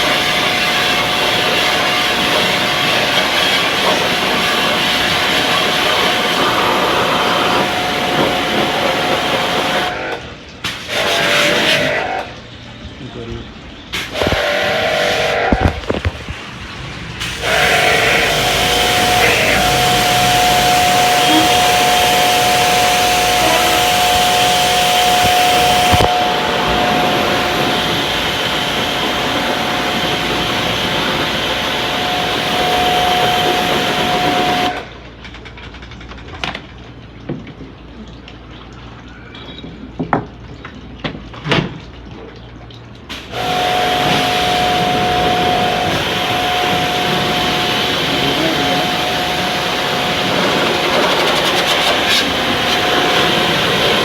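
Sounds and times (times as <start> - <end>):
pressure washer spraying: 0.0 - 10.0, 10.6 - 12.2, 13.9 - 34.8, 43.1 - 54.0
machine whine: 0.0 - 35.0, 43.2 - 54.0.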